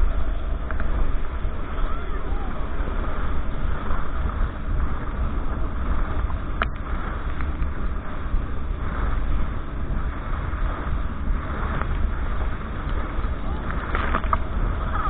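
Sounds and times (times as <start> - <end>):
motorboat engine: 0.0 - 15.0
water rushing: 0.0 - 15.0
wind buffeting microphone: 0.0 - 15.0.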